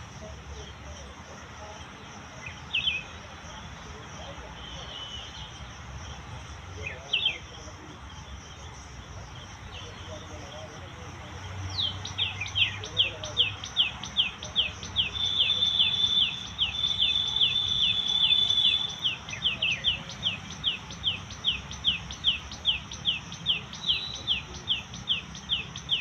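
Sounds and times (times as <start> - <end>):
bird chirping: 0.2 - 26.0.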